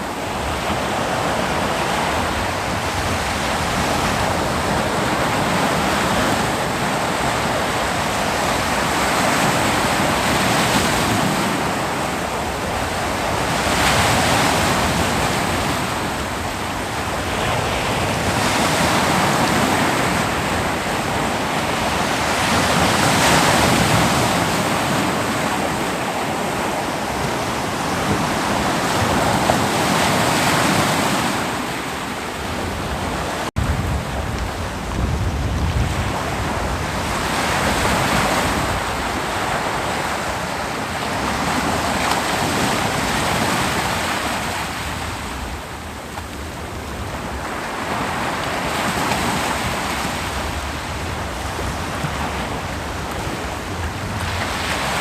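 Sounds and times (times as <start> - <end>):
ocean waves breaking: 0.0 - 55.0
wind on microphone: 0.0 - 55.0.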